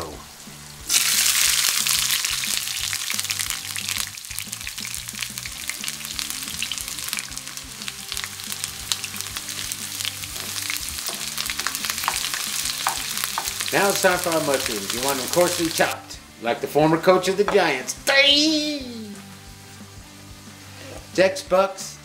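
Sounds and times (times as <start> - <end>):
peppers sizzling in oil: 0.0 - 16.2, 17.3 - 21.8.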